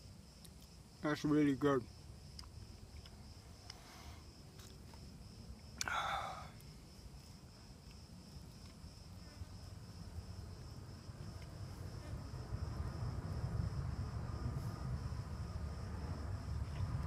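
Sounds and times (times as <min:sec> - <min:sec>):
insect buzzing: 0:01.8 - 0:17.0.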